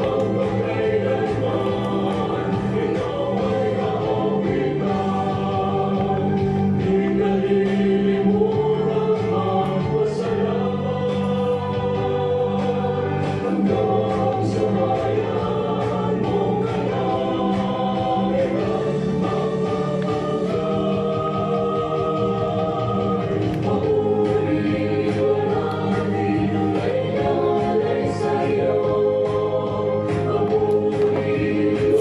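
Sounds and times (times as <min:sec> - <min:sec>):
bass accompaniment with beat: 0:00.0 - 0:32.0
choir singing: 0:00.0 - 0:32.0.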